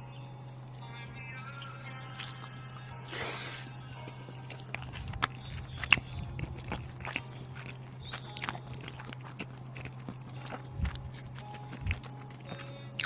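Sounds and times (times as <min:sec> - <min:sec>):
person chewing crunchy food: 0:00.5 - 0:13.0.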